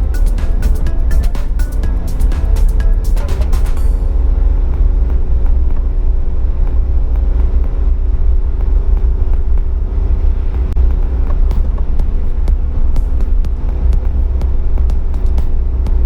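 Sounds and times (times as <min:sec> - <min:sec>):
car engine drone: 0:00.0 - 0:16.0
road and tyre rumble: 0:00.0 - 0:16.0.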